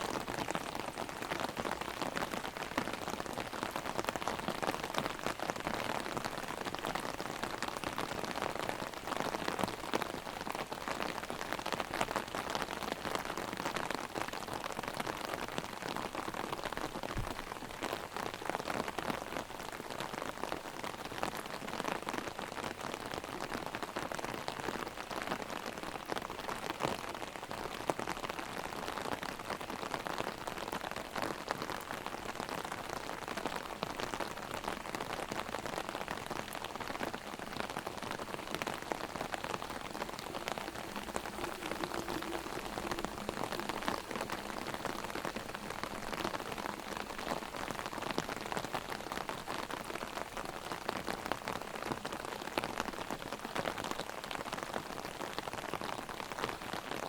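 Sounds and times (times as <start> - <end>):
heavy rain drumming on umbrella: 0.0 - 57.0.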